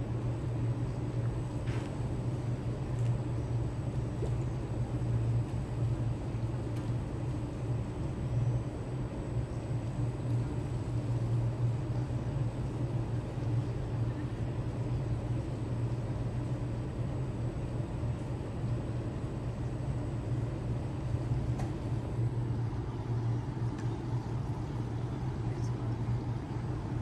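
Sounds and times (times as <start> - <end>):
faint outdoor noise: 0.0 - 27.0
low mechanical hum: 0.0 - 27.0.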